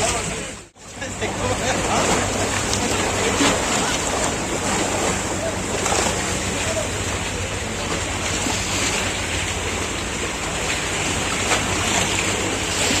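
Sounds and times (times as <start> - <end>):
boat engine humming: 0.0 - 13.0
water noise: 0.0 - 13.0
wind: 0.0 - 13.0.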